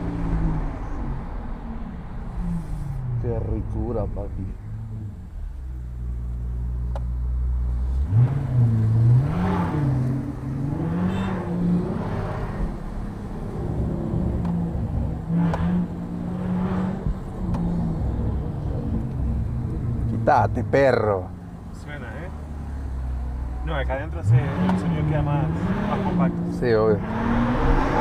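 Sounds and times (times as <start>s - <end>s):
car engine idling and accelerating: 0.0s - 28.0s.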